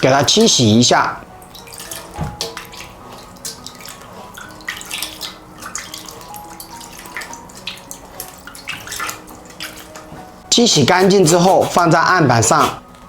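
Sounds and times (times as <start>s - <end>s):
water splashing and dripping: 0.0s - 13.0s.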